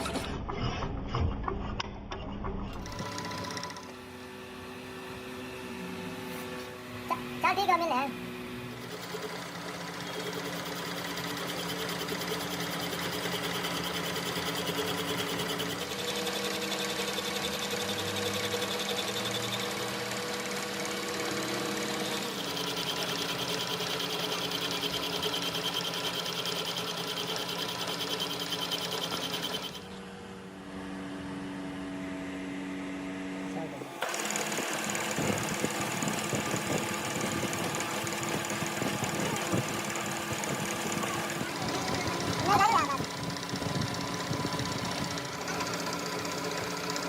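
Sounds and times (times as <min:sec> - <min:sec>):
machine tool whirring: 0:00.0 - 0:32.4, 0:33.2 - 0:47.0.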